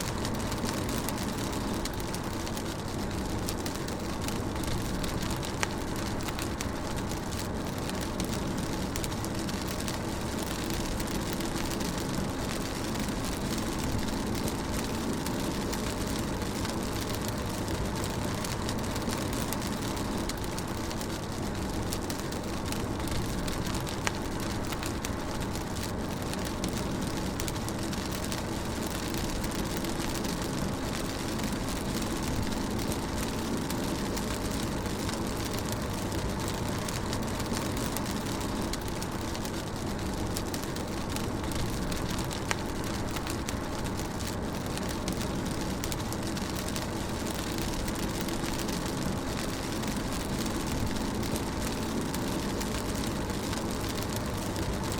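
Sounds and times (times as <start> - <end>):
rain hissing on a car: 0.0 - 54.9
raindrop ticks: 0.0 - 54.9.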